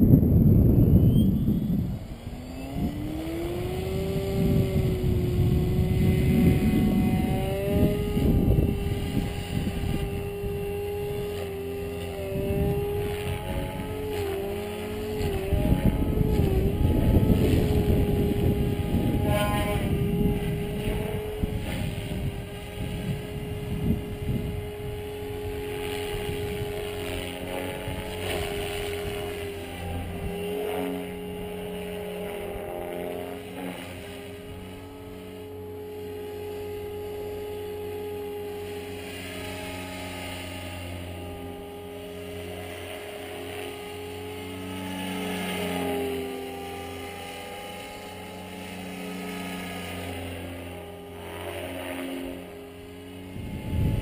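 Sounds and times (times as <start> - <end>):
model helicopter whine: 0.0 - 54.0.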